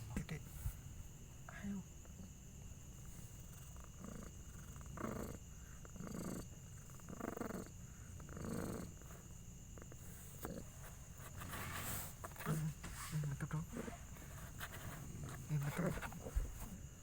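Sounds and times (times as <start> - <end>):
cat purring faintly: 0.0 - 17.0.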